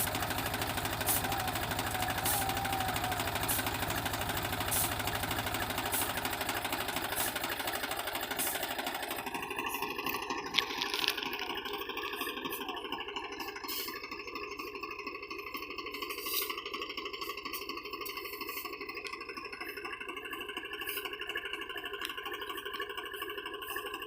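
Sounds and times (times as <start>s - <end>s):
tractor diesel engine clattering: 0.0s - 24.0s.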